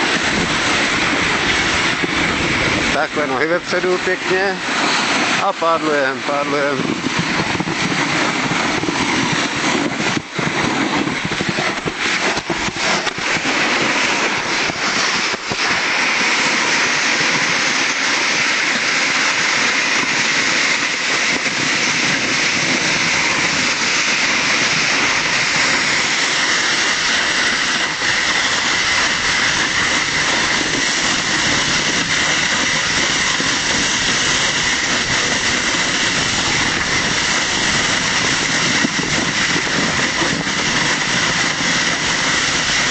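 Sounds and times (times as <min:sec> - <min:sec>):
sled runners scraping snow: 0:00.0 - 0:42.9.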